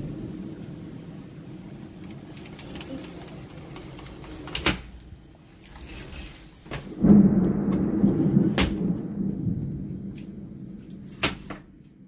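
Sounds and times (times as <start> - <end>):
thunder cracks: 0.0 - 5.4, 6.7 - 12.0
low thunder rumble: 0.0 - 5.5, 6.6 - 12.0.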